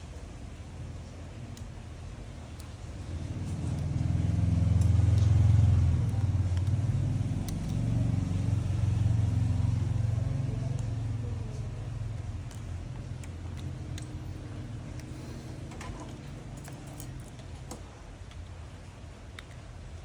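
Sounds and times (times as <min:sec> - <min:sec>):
vehicle engine humming: 0:01.0 - 0:18.2.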